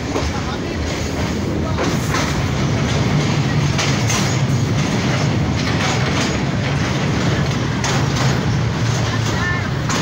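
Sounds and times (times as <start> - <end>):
train rumbling over bridge: 0.0 - 10.0
wheels clacking: 0.0 - 10.0.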